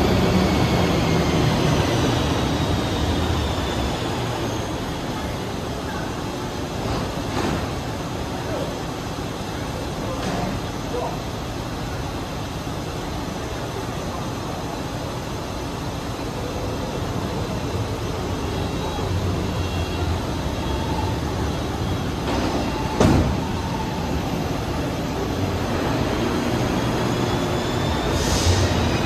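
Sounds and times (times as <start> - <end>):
train rolling past platform: 0.0 - 29.0.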